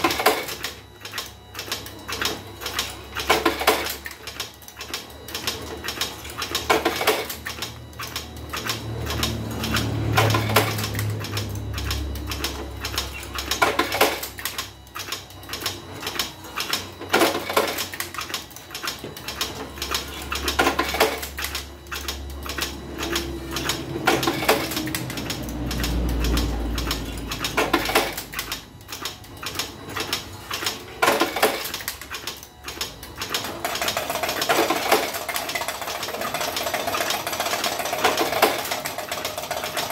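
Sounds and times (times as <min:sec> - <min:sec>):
low machine hum: 0:00.0 - 0:39.9
machine metallic clatter: 0:04.8 - 0:39.9
heavy mechanical clack: 0:05.4 - 0:39.9.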